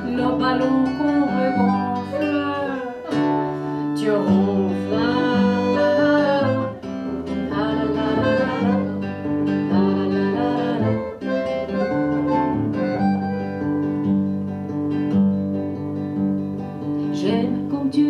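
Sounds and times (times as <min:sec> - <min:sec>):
acoustic guitar: 0:00.0 - 0:18.0
wordless melody line: 0:00.0 - 0:18.0.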